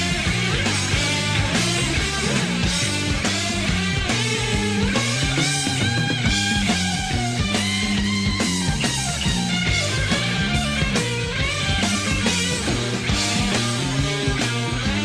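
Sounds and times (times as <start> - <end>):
bass: 0.0 - 15.0
distorted electric guitar: 0.0 - 15.0
drums: 0.0 - 15.0.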